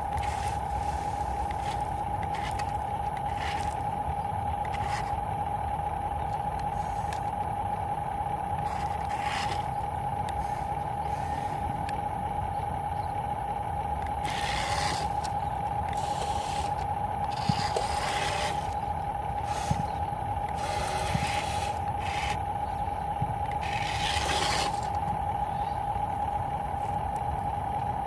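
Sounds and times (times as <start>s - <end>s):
model motor whine: 0.0s - 28.0s.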